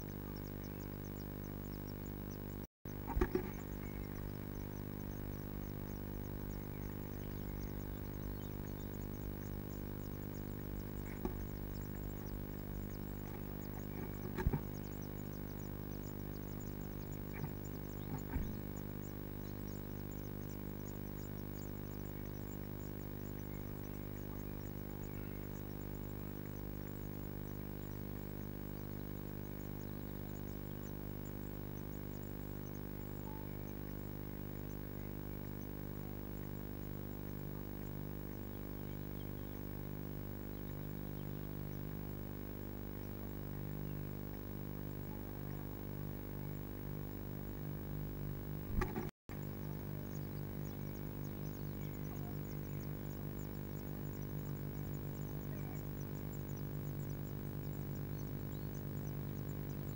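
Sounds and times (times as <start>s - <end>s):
nestlings cheeping: 0.0s - 47.7s, 48.6s - 59.9s
steady electrical hum: 0.0s - 59.9s.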